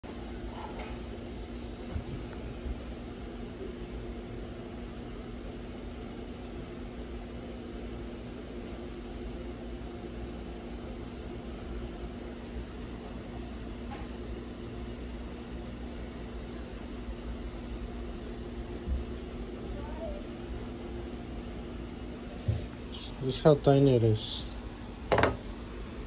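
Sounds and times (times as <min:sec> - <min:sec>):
machine humming: 0:01.2 - 0:26.0.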